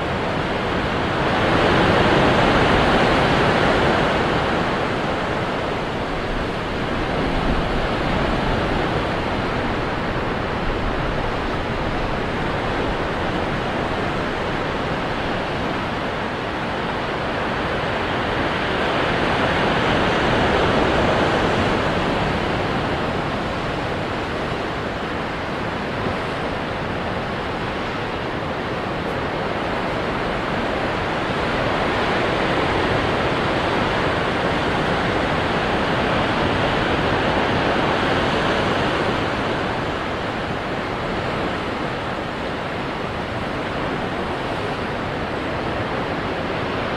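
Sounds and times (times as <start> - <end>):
ocean waves breaking on rocks: 0.6 - 46.9.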